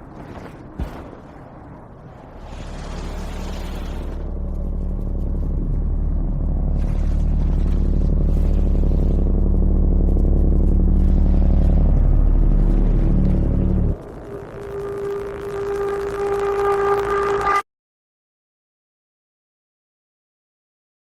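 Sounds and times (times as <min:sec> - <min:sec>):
deep rumbling drone: 0:00.0 - 0:17.6.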